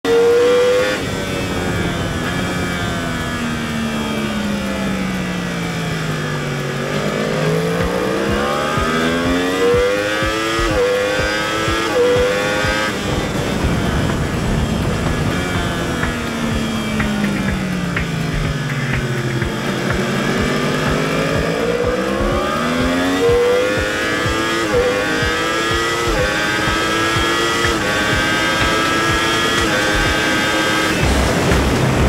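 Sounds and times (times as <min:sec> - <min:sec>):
motorbike engine revving: 0:00.0 - 0:32.0
wind noise: 0:00.4 - 0:06.8, 0:07.4 - 0:32.0.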